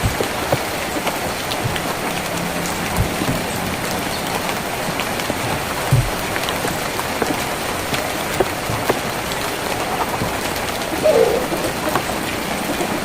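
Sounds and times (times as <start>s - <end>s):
rain on a tin roof: 0.0s - 13.0s.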